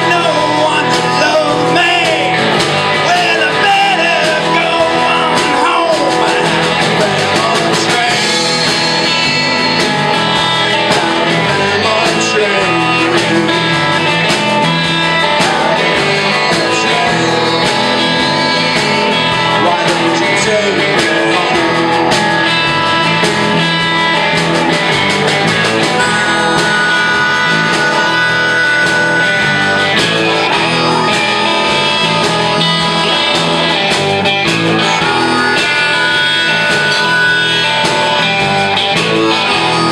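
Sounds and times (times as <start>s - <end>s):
live blues band playing: 0.0s - 39.9s.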